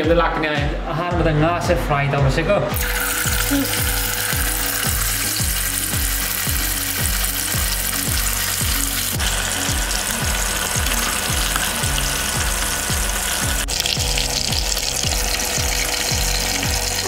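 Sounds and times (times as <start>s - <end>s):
background music with low beat: 0.0s - 17.0s
fish deep-frying in hot oil: 2.8s - 17.0s.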